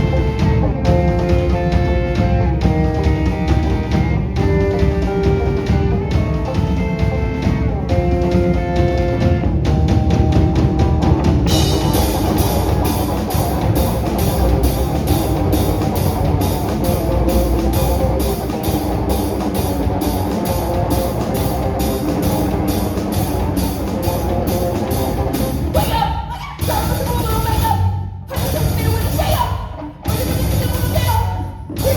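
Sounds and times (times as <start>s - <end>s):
rock music with drums and guitar: 0.0s - 31.9s.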